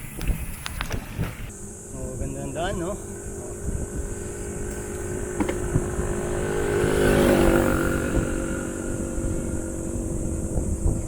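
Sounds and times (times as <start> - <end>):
motorcycle passing: 1.4 - 11.0.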